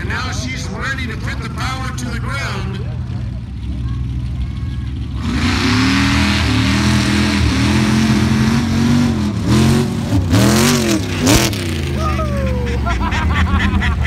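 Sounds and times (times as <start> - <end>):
racing engine revving: 0.0 - 14.0.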